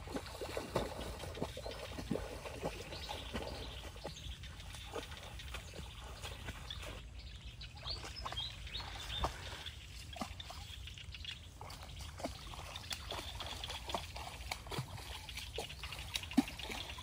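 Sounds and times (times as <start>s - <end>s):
water plips and trickles: 0.0s - 7.0s, 7.8s - 17.0s.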